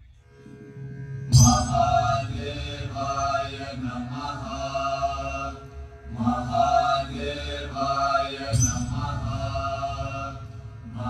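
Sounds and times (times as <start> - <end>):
steady low drone: 0.0 - 11.0
devotional chanting: 1.3 - 11.0.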